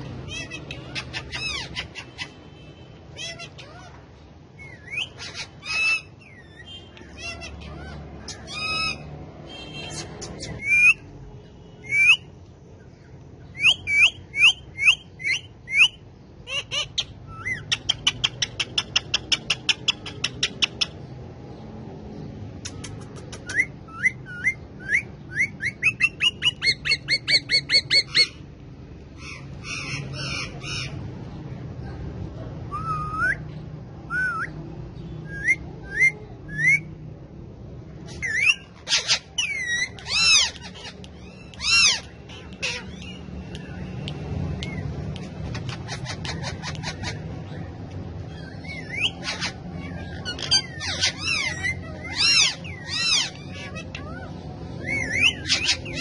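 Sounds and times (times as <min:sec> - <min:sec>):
parakeets squawking: 0:00.0 - 0:11.2, 0:13.4 - 0:21.6, 0:22.5 - 0:34.6, 0:37.9 - 0:56.0.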